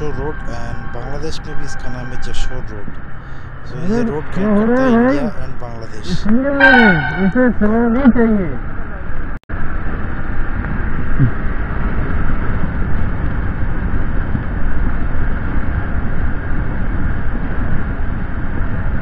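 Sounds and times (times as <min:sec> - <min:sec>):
wind rushing over microphone: 0:02.8 - 0:19.0.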